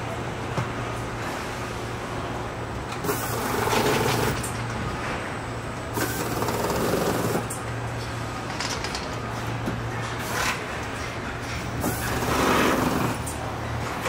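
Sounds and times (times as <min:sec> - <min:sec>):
assembly line machinery humming: 0:00.0 - 0:14.0.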